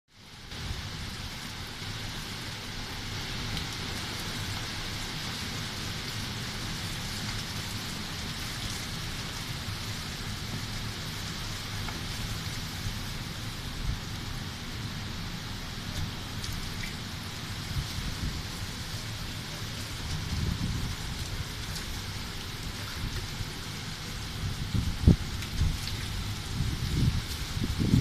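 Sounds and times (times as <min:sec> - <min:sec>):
heavy rain pouring: 0:00.1 - 0:28.0
wind rumble: 0:00.2 - 0:28.0.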